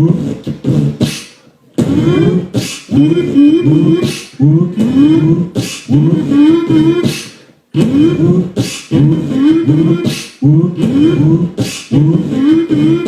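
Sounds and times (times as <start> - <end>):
hummed vocal bass line: 0.0 - 1.1, 1.8 - 13.0
hissing beatbox snare hits: 0.0 - 4.9, 5.6 - 12.9.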